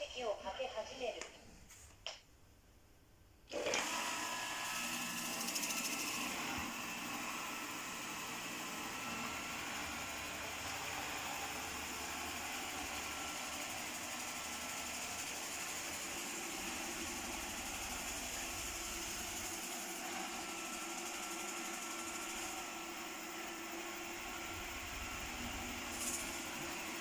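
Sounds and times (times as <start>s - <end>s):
robot vacuum whirring: 3.5s - 27.0s.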